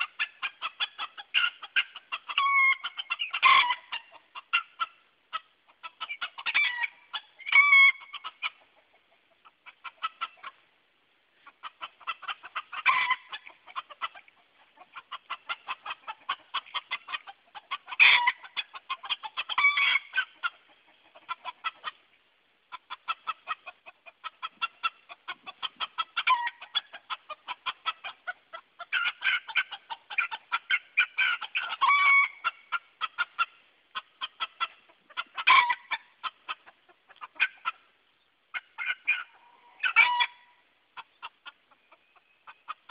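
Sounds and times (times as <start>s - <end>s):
roosters giving alarm clucks: 0.0s - 10.7s, 11.3s - 42.9s.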